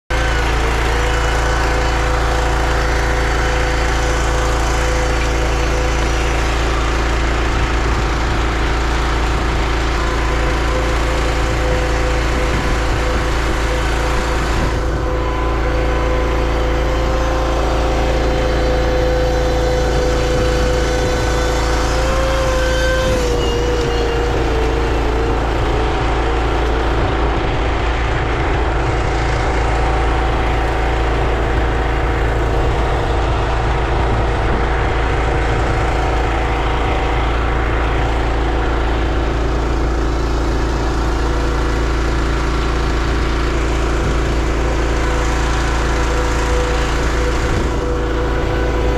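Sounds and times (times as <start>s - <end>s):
pressure washer running: 0.0s - 48.9s.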